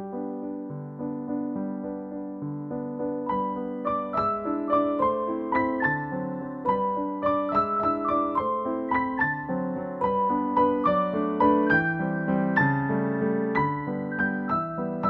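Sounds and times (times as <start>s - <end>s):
calm keyboard melody: 0.0s - 15.0s.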